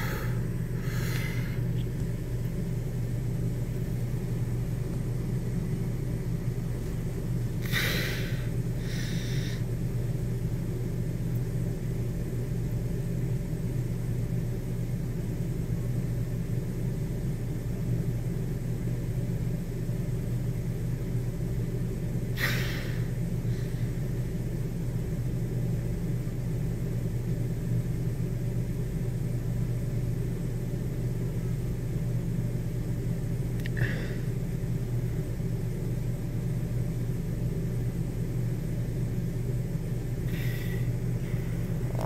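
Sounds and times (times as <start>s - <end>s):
low hum and rumble: 0.0s - 42.0s.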